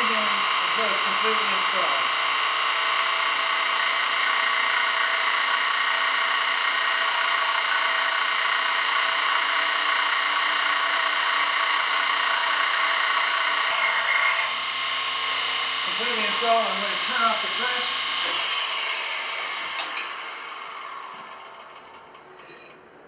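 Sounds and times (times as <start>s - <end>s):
hydraulic press whine: 0.0s - 23.0s.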